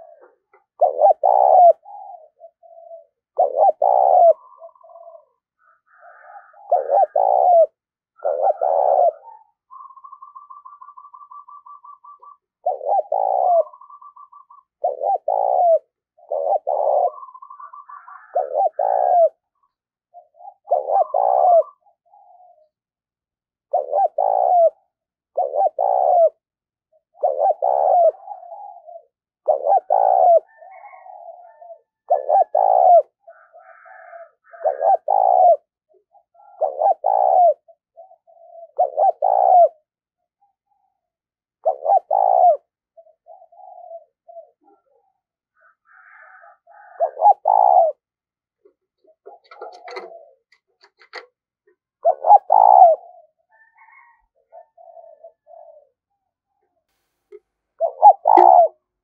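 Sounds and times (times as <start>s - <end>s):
dove cooing: 0.0s - 22.9s, 23.5s - 59.0s.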